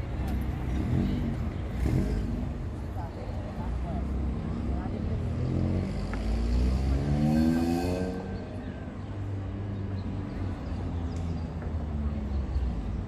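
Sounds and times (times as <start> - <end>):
low traffic rumble: 0.0 - 13.0
vehicle accelerating: 0.0 - 13.0.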